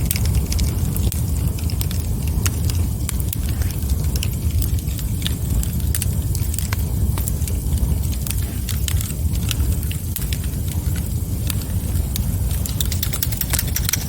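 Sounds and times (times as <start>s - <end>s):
burning wood crackling: 0.0s - 14.0s
fire flames roaring: 0.0s - 14.0s.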